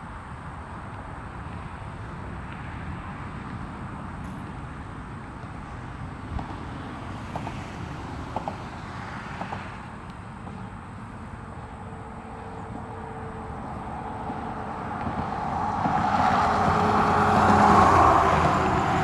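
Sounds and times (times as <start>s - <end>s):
distant jet engines rumbling: 1.2s - 19.0s.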